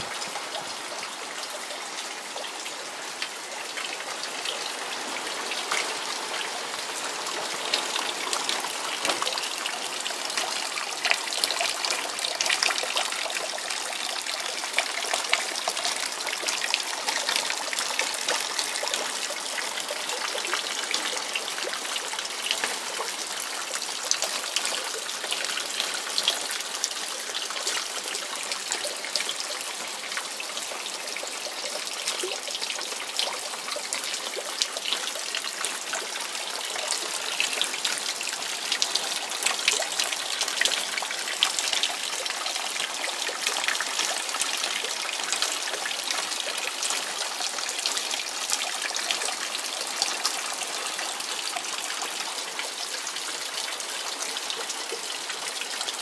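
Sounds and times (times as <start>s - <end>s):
rain pattering on plastic and leaves: 0.0s - 56.0s
runoff water pouring: 0.0s - 56.0s.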